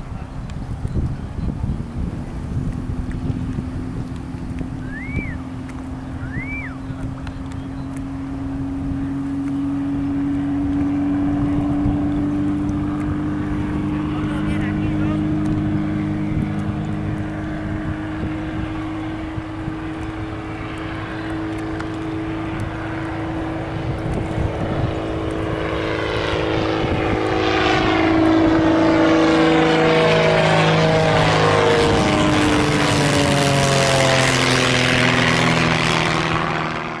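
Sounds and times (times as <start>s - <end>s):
aircraft engine and propeller droning: 0.0s - 37.0s.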